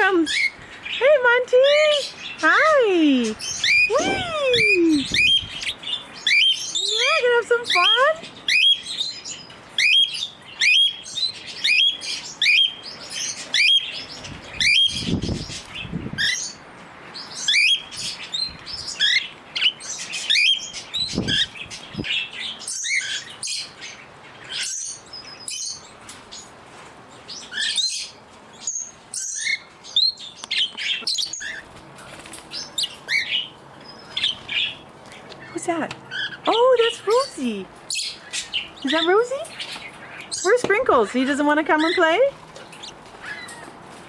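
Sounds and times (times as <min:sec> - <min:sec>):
parrots chirping and calling: 0:00.0 - 0:44.0.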